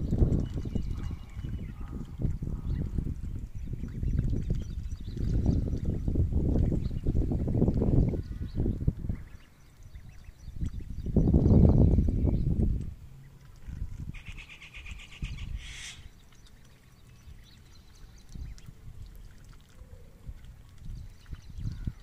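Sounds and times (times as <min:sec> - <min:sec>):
ducklings peeping: 0:00.1 - 0:11.8, 0:13.3 - 0:22.0.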